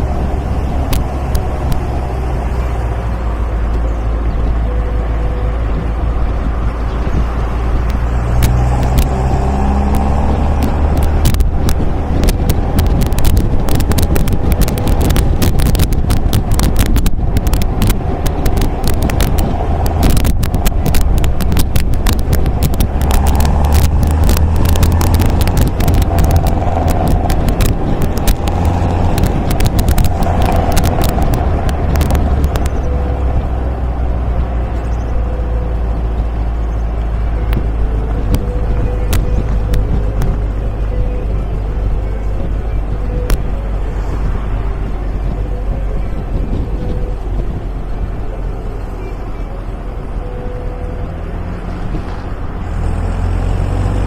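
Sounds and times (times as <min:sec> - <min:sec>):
exhaust crackles: 0:00.0 - 0:54.0
sports car engine and exhaust: 0:00.0 - 0:54.0.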